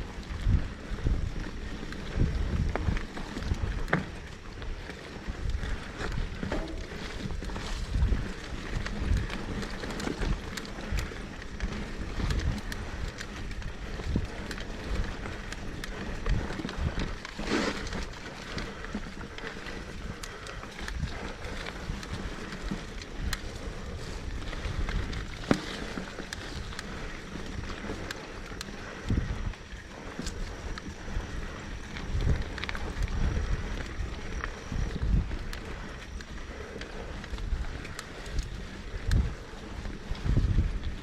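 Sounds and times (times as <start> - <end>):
bike rattling over bumps: 0.0 - 41.0
bike tyres rumbling on dirt: 0.0 - 41.0.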